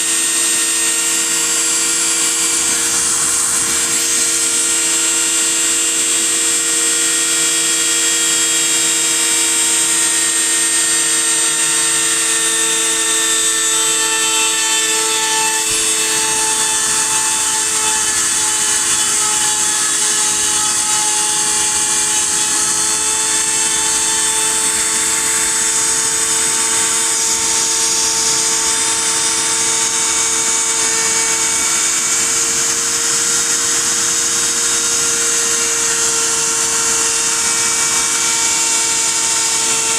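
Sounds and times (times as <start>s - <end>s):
spindle motor whining: 0.0s - 33.5s.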